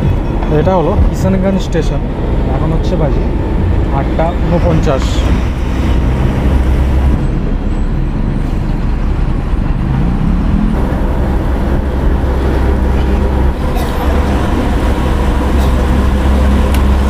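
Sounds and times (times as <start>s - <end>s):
bus engine rumble inside cabin: 0.0s - 17.0s.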